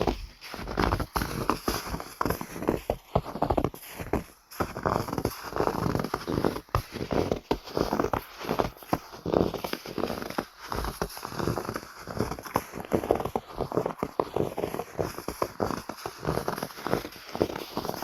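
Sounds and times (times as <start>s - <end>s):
footsteps crunching through snow: 0.0s - 18.0s.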